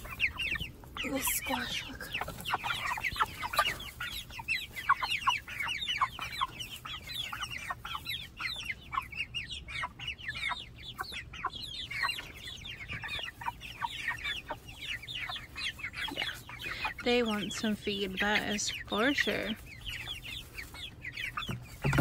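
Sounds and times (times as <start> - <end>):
chickens peeping and clucking: 0.0 - 22.0.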